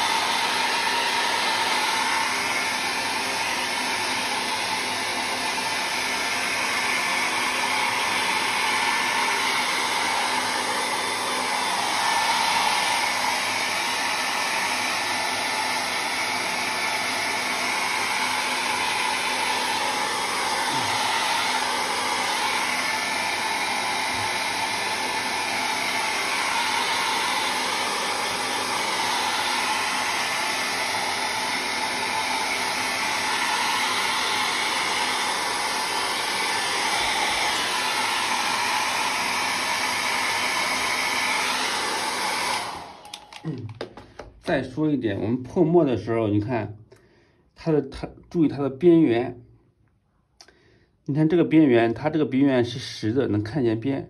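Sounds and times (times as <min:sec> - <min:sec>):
hair dryer blowing: 0:00.0 - 0:46.4, 0:51.6 - 0:53.8.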